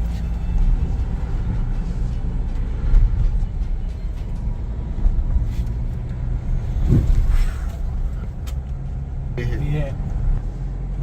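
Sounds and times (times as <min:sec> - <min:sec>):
vehicle rumbling off-road: 0:00.0 - 0:11.0.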